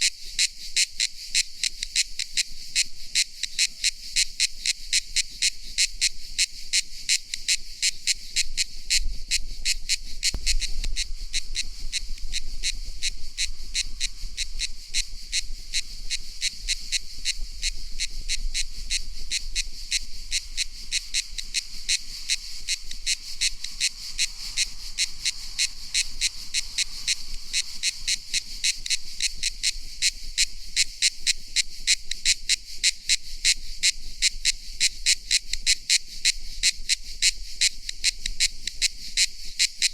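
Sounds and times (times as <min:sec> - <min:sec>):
cicada buzzing: 0:00.0 - 0:39.9.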